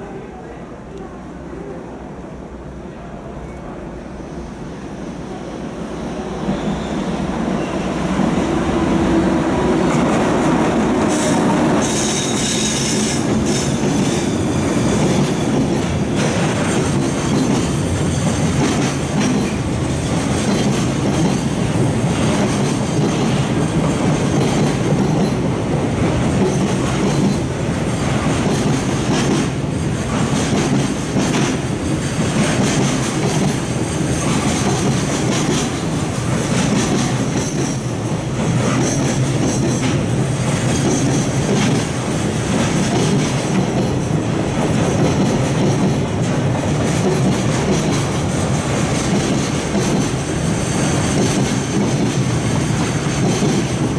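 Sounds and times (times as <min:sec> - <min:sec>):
train wheels rumbling on rails: 0:04.2 - 0:53.9.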